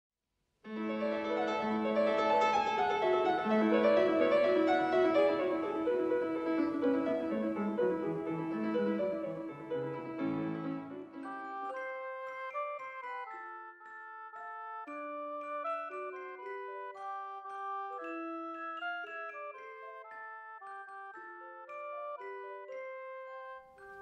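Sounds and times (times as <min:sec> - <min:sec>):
piano music: 0:00.7 - 0:20.6.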